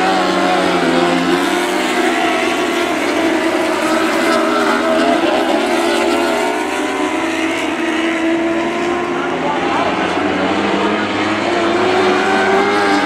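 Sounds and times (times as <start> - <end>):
race car engines on dirt track: 0.0 - 13.0.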